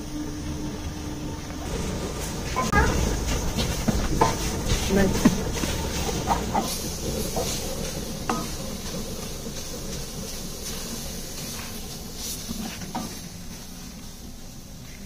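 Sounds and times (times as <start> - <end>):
food sizzling in a pan: 2.5 - 15.0.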